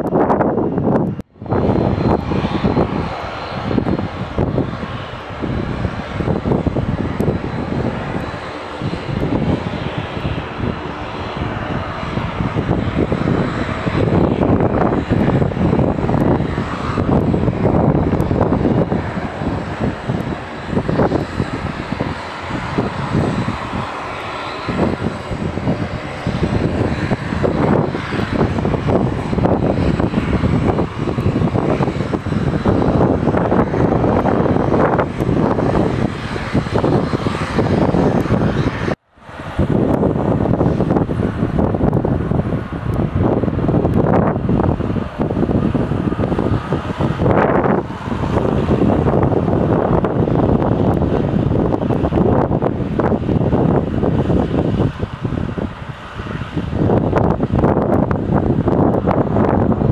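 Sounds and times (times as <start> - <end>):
airliner engines running: 0.0 - 59.9.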